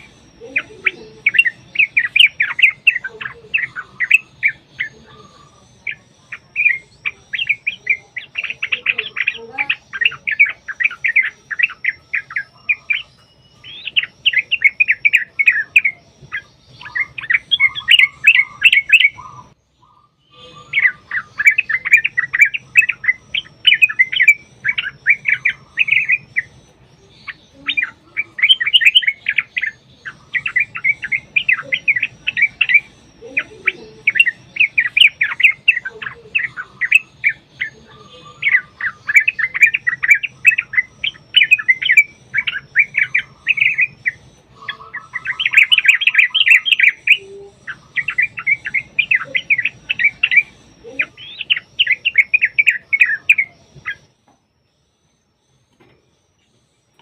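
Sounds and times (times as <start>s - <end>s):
bulbuls singing: 0.0s - 57.0s.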